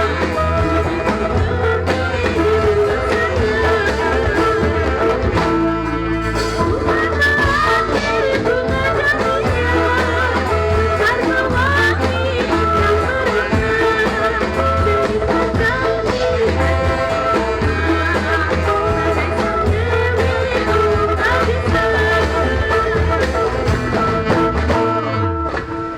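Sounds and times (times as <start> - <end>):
pulsing bass: 0.0 - 25.8
live ensemble playing melody: 0.0 - 25.9.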